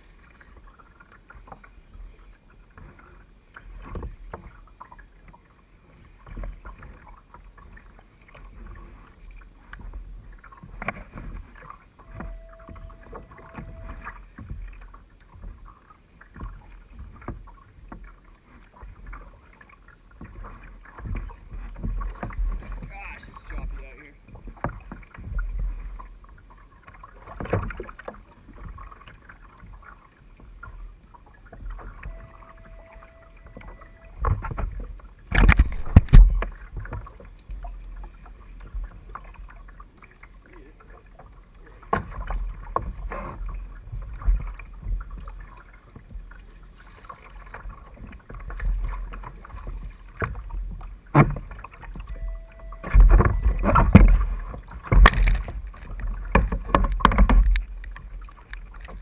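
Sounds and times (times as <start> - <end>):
splashes and knocks: 0.0 - 59.0
water slapping against kayak hull: 0.0 - 59.0.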